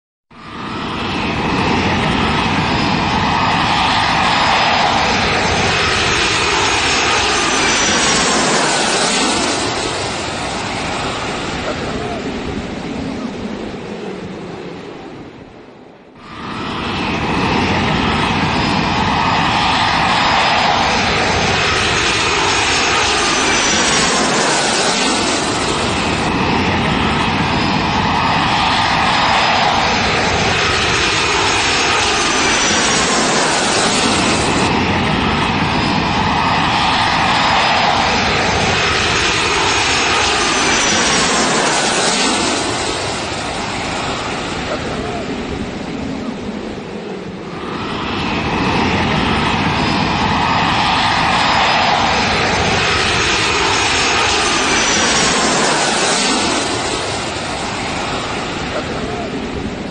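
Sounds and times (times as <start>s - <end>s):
gliding engine whine: 0.3s - 59.9s
jet engines running: 0.3s - 59.9s.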